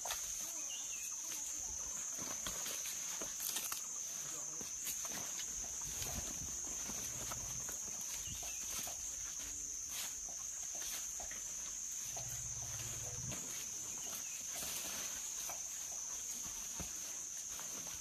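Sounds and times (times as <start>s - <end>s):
soft scuffs and rustles: 0.1s - 18.0s.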